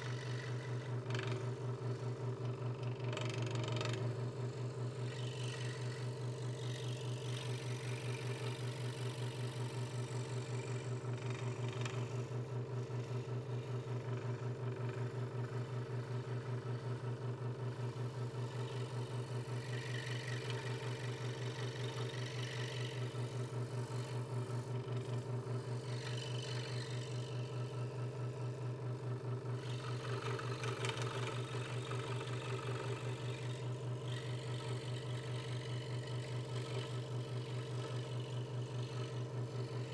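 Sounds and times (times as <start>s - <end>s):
scroll saw humming: 0.0s - 16.8s, 17.6s - 39.9s.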